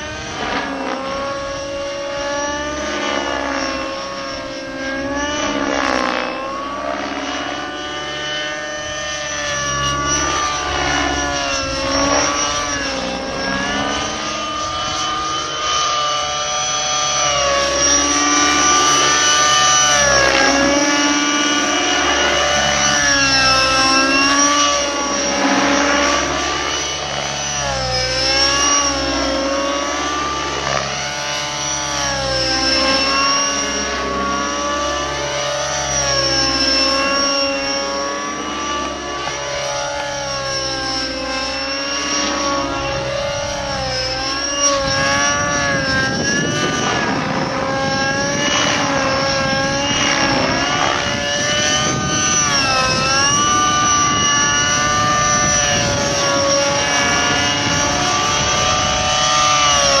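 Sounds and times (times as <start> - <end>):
rc helicopter engine whine: 0.0 - 60.0.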